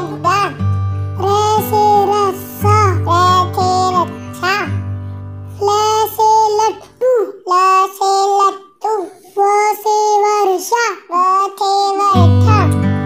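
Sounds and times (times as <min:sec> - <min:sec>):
child singing: 0:00.0 - 0:00.6, 0:01.2 - 0:04.9, 0:05.5 - 0:12.9.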